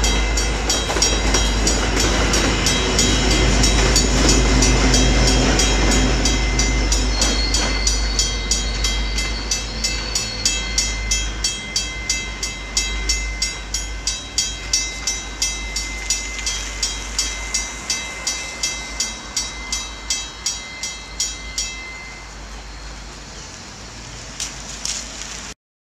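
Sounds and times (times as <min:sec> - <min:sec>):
railroad crossing bell ringing: 0:00.0 - 0:23.5
diesel locomotive rumbling past: 0:00.0 - 0:25.6.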